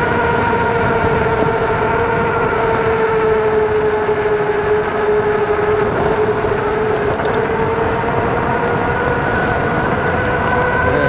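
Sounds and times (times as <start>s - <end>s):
tires humming on asphalt: 0.0s - 11.0s
wind rushing over microphone: 0.0s - 11.0s.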